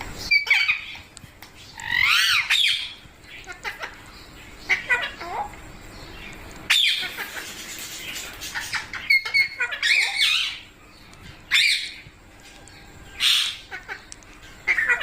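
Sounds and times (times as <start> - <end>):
parrots squawking: 0.2 - 1.1, 1.7 - 5.6, 6.6 - 10.7, 11.5 - 15.0.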